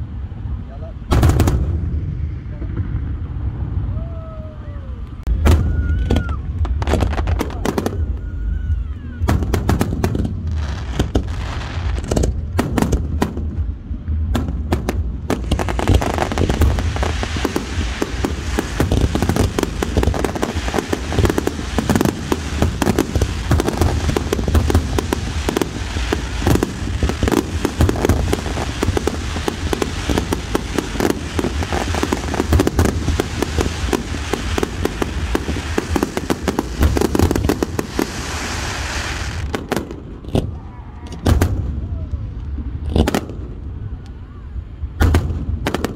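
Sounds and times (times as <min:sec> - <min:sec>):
fireworks bursts: 0:01.0 - 0:03.9, 0:05.1 - 0:43.9, 0:44.8 - 0:45.9
rapid firework bangs: 0:01.1 - 0:03.4, 0:05.3 - 0:08.1, 0:09.2 - 0:40.6, 0:41.2 - 0:41.8, 0:42.7 - 0:43.6, 0:45.0 - 0:45.9.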